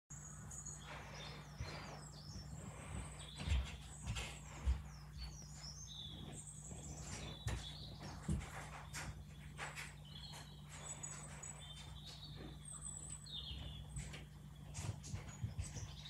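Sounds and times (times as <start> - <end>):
small birds chirping on television: 0.1 - 16.0
steady low hum: 0.1 - 16.0.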